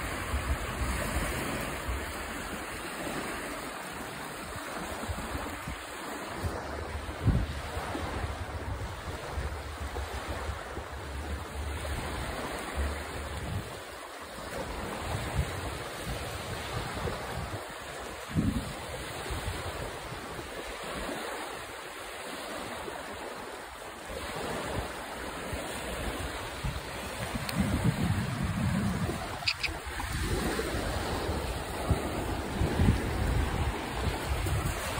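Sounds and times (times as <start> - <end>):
wind buffeting microphone: 0.0 - 13.9, 14.5 - 21.4, 24.1 - 34.9
shoreline surf: 0.0 - 34.9.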